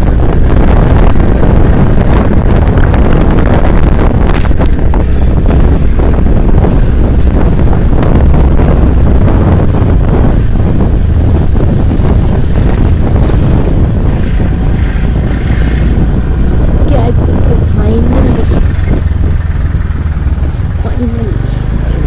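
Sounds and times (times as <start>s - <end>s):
low rumble: 0.0s - 22.0s
wind buffeting microphone: 0.0s - 22.0s.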